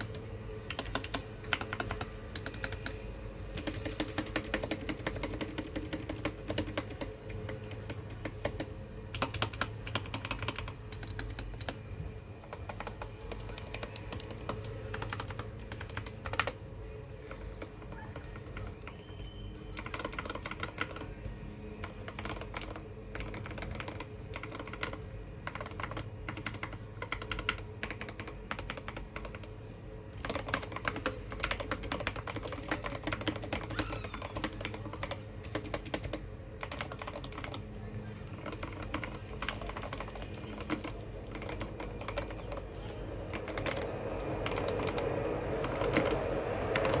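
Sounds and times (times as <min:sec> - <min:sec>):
mechanical keyboard typing: 0:00.0 - 0:16.6, 0:17.2 - 0:29.5, 0:30.1 - 0:47.0
steady low hum: 0:00.0 - 0:47.0.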